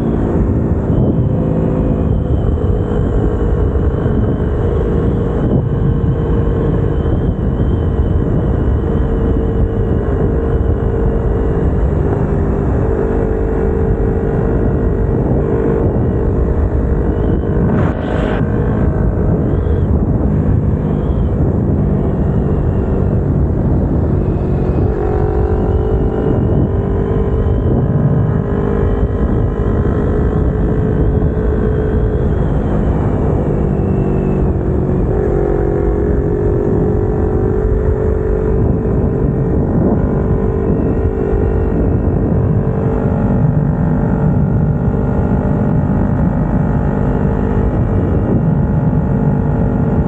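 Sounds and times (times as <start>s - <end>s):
motorcycle engine running: 0.0s - 50.0s
rushing wind noise: 0.0s - 50.0s.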